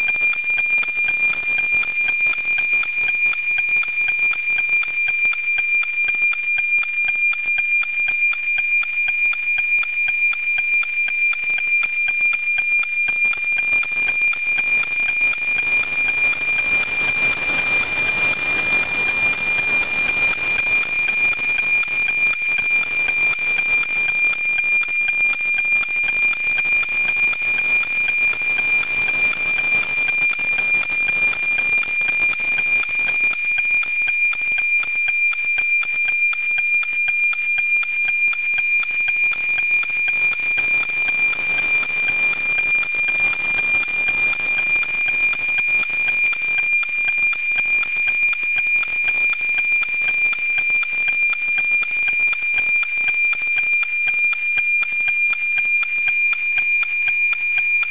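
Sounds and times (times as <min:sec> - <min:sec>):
pulsing high tone with ticking: 0:00.0 - 0:57.9.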